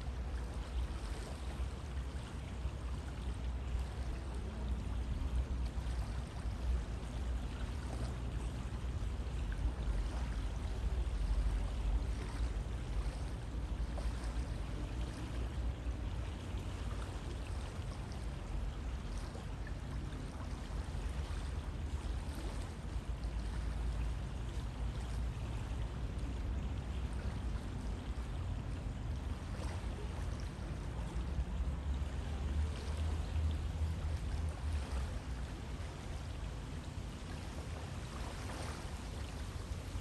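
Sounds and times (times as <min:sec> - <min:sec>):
faint splashes and gurgles: 0:00.0 - 0:40.0
river water rushing: 0:00.0 - 0:40.0.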